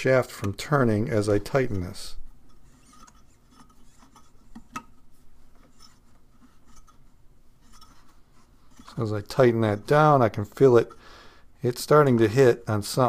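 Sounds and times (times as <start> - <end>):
plastic impeller clicking and rubbing: 0.0 - 11.0.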